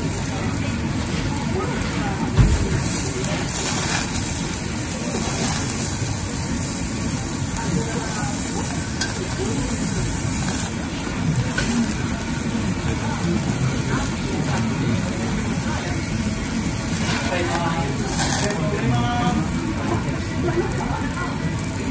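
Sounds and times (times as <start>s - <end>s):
beef sizzling on a grill: 0.0s - 21.9s
metal tongs turning meat: 1.0s - 19.4s.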